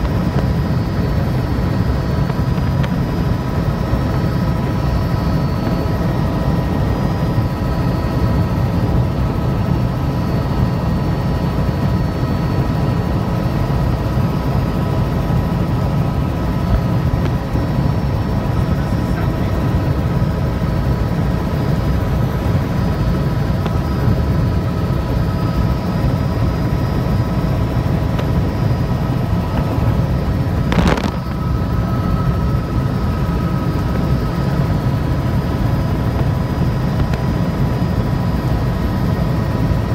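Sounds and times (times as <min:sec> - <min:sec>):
helicopter rotor and engine din: 0:00.0 - 0:39.9
high whine: 0:00.0 - 0:39.9.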